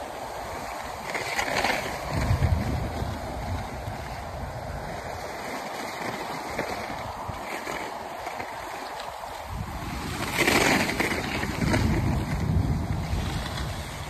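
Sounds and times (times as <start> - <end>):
skis scraping over snow: 0.0 - 14.0
wind on microphone: 0.0 - 14.0.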